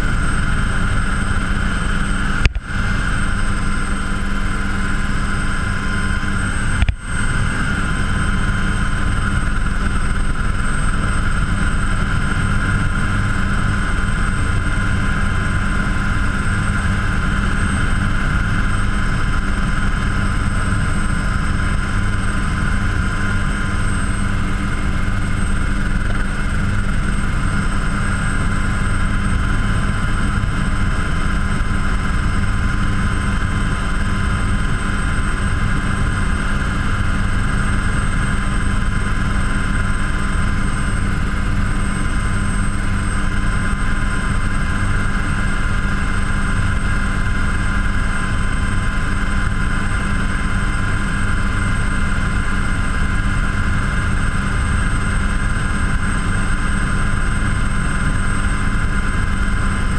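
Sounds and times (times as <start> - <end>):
helicopter turbine whine: 0.0 - 59.9
rotor and engine drone: 0.0 - 59.9.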